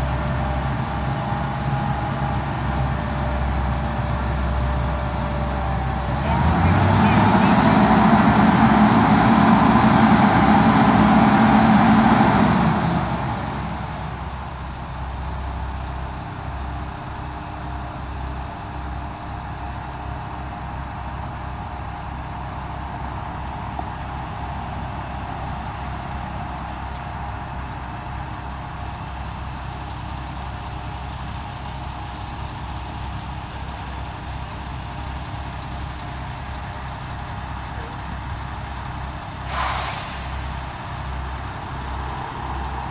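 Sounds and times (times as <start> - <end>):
heavy vehicle engine rumble: 0.0 - 42.9.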